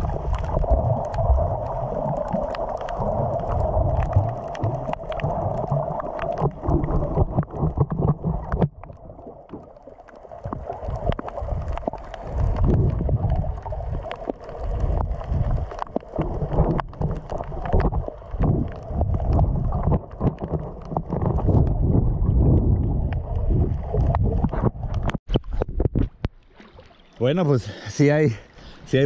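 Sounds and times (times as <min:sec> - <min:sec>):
sharp underwater clicks and crackles: 0:00.0 - 0:27.3
underwater sloshing rumble: 0:00.0 - 0:27.6.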